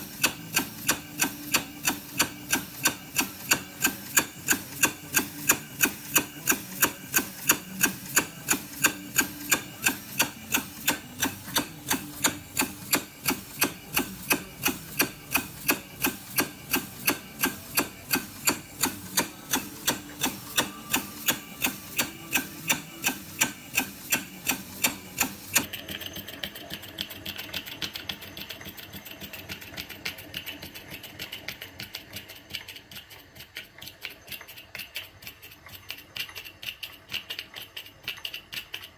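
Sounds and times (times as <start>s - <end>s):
model steam engine beat: 0.0s - 38.9s
small steam engine ticking: 0.0s - 38.9s.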